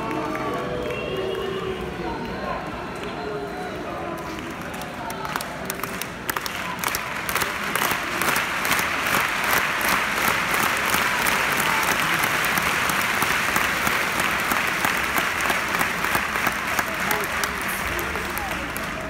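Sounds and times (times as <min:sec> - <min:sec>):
crowd applauding: 0:00.0 - 0:19.0.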